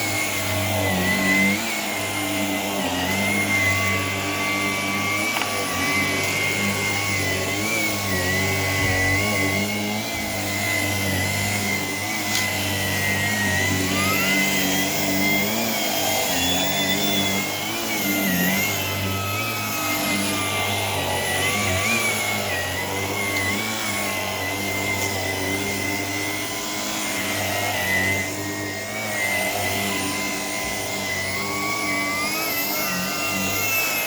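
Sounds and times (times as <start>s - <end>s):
vacuum cleaner motor whine: 0.0s - 34.0s.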